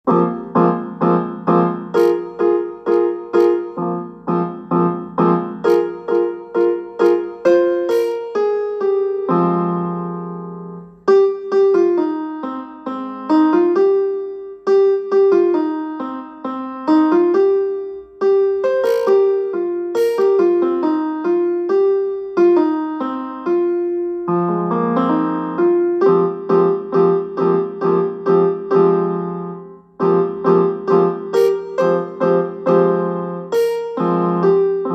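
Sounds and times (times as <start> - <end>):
piano ringtone tune: 0.1 - 34.9.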